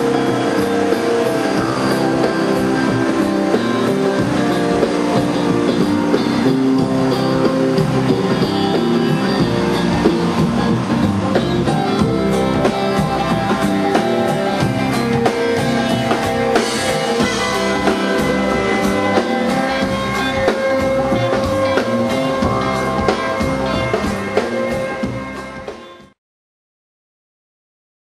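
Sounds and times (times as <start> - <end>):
band music with guitar: 0.0 - 26.2
steady drumbeat: 0.0 - 26.2.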